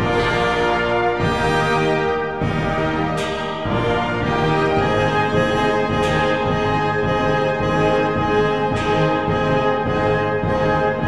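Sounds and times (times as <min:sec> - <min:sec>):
orchestral brass chords: 0:00.0 - 0:11.0.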